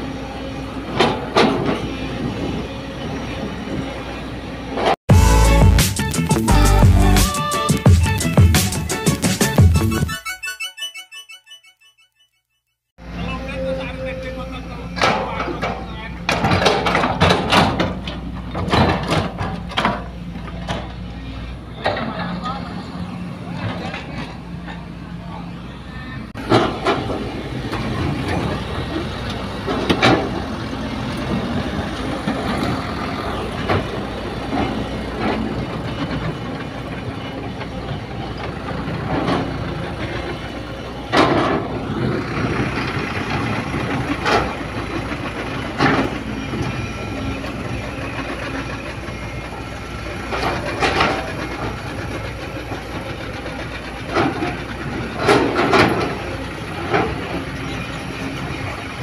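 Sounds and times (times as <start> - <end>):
excavator diesel engine under load: 0.0 - 10.2, 13.0 - 59.0.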